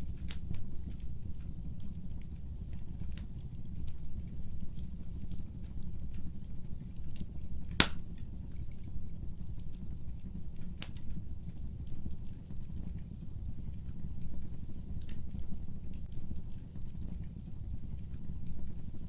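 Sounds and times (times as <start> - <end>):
fire crackling: 0.0 - 19.0
fire popping: 0.0 - 19.0
fire rumbling in fireplace: 0.0 - 19.0.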